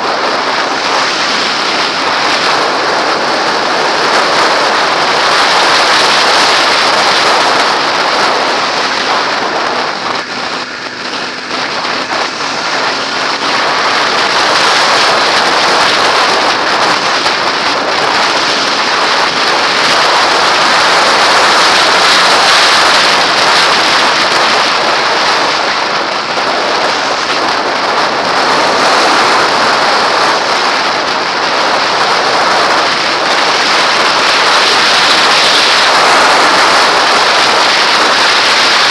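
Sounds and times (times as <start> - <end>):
wind rush over motorcycle helmet: 0.0 - 38.9.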